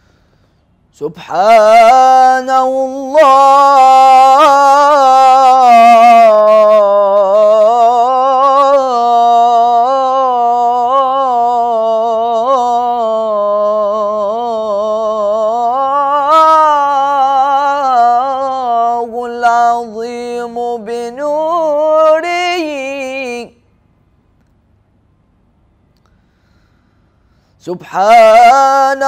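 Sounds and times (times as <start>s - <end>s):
man singing unaccompanied: 0.9s - 23.6s, 27.6s - 29.0s.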